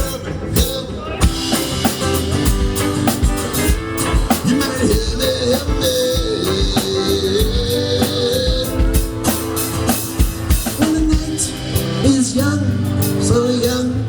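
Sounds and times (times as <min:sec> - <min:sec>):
drum kit beat: 0:00.0 - 0:14.0
guitar: 0:00.0 - 0:14.0.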